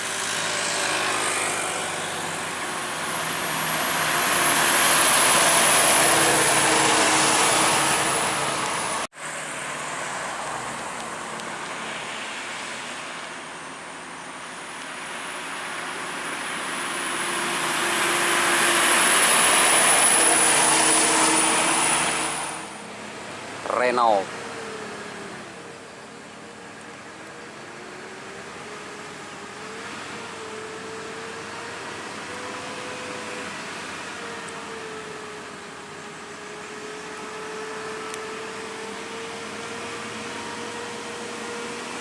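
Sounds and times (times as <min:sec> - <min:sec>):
heavy trucks climbing a hill: 0:00.0 - 0:42.0.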